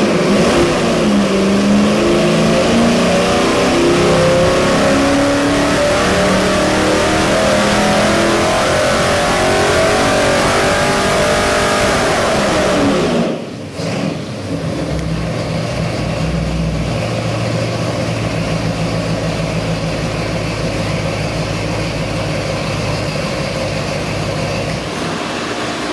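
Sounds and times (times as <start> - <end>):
engine revving down to idle: 0.0 - 25.9.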